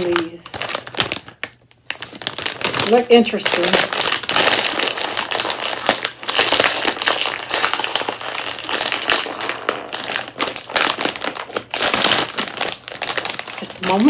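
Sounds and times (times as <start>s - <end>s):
plastic snack bag crackling: 0.0s - 14.0s.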